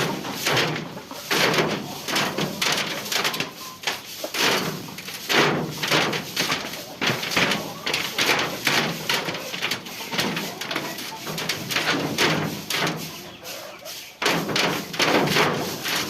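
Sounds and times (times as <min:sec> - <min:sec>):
scraping on chicken house floor: 0:00.0 - 0:16.0.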